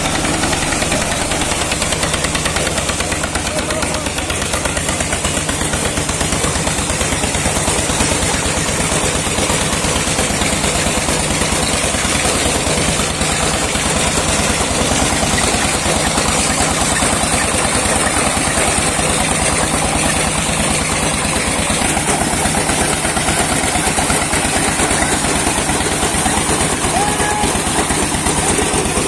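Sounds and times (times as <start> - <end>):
engine running steadily: 0.0 - 29.0
spinning drum whirring: 0.0 - 29.0.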